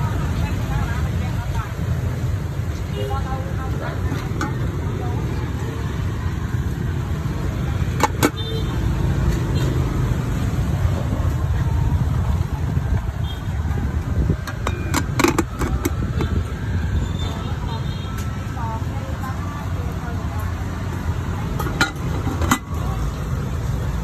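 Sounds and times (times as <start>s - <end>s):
low rumble of street traffic: 0.0s - 24.0s.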